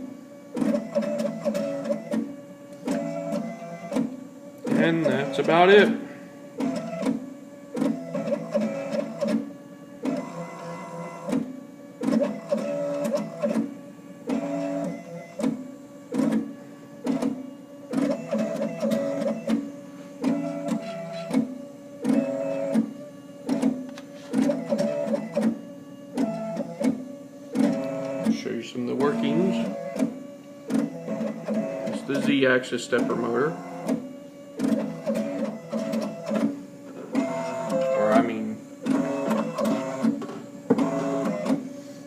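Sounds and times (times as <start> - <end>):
stepper motor whine: 0.0 - 42.0.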